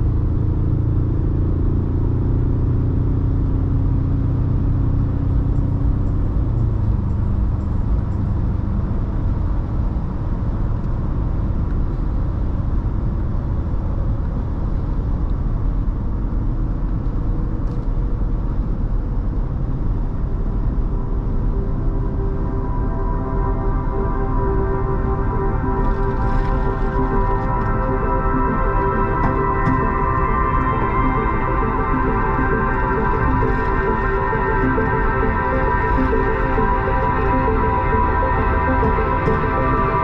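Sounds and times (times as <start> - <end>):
car engine hum: 0.0 - 40.0.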